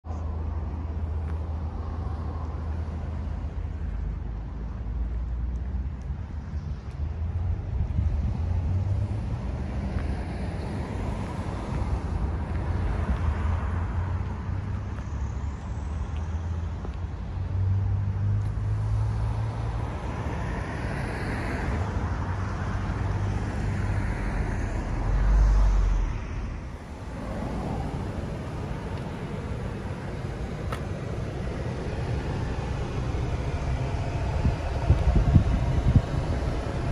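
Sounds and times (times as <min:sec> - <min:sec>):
road traffic rumble: 0:00.0 - 0:36.9
vehicles passing by: 0:00.0 - 0:36.9.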